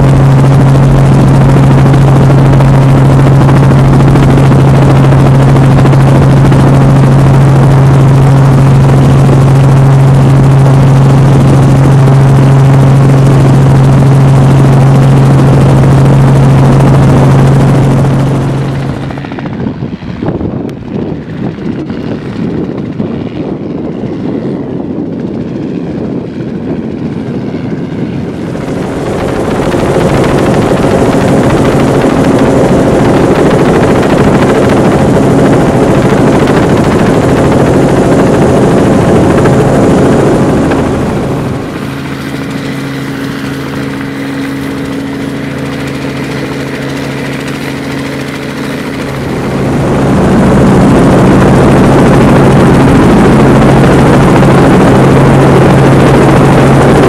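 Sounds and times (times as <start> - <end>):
helicopter engine hum: 0.0 - 57.0
helicopter rotor whir: 0.0 - 57.0.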